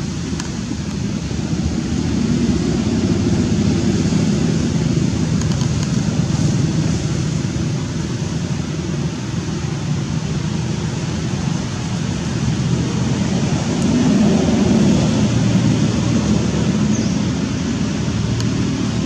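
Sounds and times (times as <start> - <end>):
steady low rumbling: 0.0 - 19.0.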